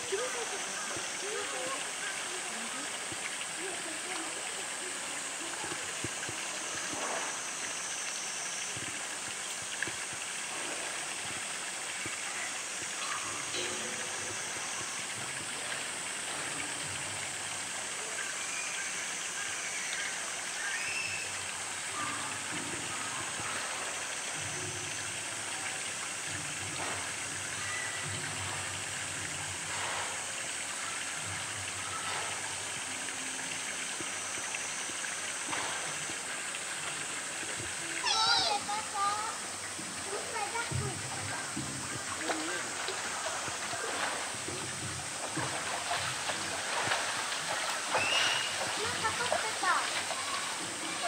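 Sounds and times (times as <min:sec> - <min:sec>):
running water: 0:00.0 - 0:51.0
faint splashes of swimming animal: 0:08.4 - 0:51.0.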